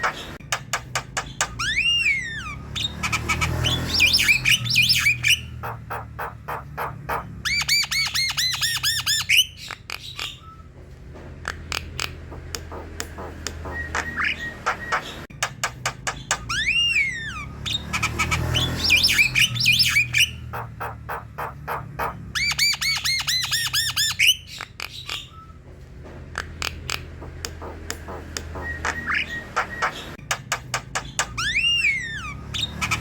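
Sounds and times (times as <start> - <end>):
bird song with clicks and whistles: 0.0 - 10.8, 11.4 - 25.7, 26.3 - 33.0.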